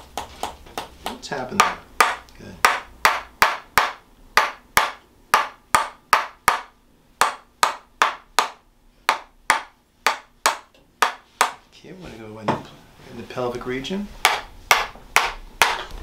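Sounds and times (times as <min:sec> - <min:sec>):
sharp wooden knocks: 0:00.0 - 0:11.6, 0:14.2 - 0:16.0.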